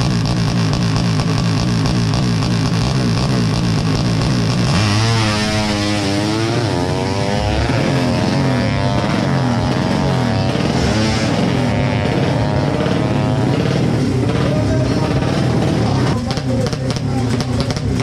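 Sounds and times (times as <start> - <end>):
motorbike engine accelerating: 0.0 - 18.0.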